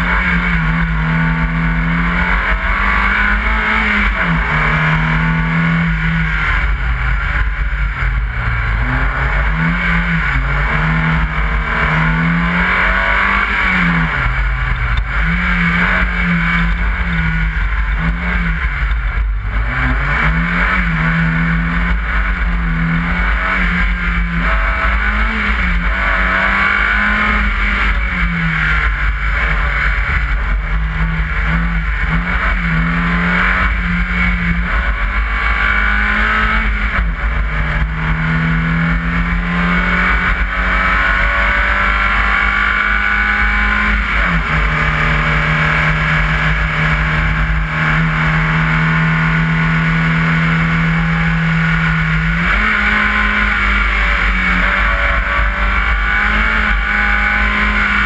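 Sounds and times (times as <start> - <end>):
rally car engine revving: 0.0 - 58.0
steady rushing noise: 0.0 - 58.0.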